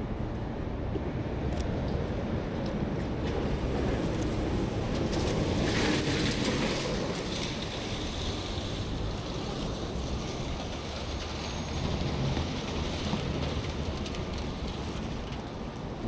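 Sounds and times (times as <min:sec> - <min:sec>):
traffic rush: 0:00.0 - 0:16.0
wind buffeting microphone: 0:00.0 - 0:16.0.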